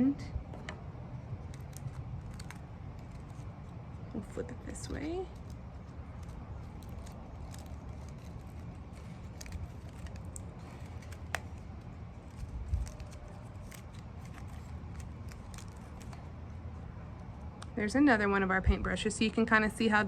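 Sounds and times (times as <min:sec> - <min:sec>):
steady low rumble: 0:00.0 - 0:20.0
leaves rustling: 0:01.1 - 0:17.6.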